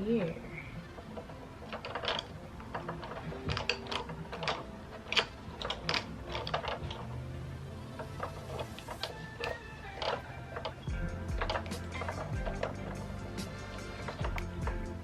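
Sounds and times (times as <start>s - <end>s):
plastic and metal parts clicking: 0.5s - 15.0s.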